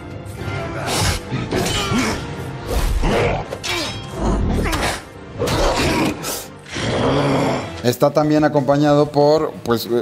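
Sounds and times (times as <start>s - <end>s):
dramatic film music: 0.0s - 10.0s.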